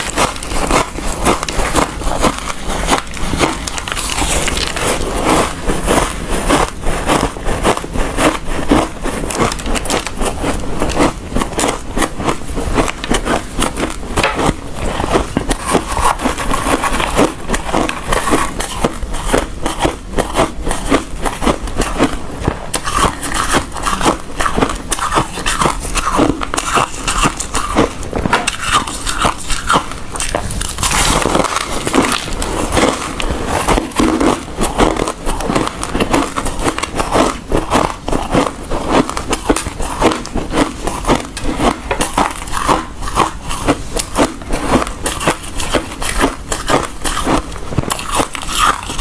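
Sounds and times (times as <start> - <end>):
person chewing ice: 0.0 - 49.0.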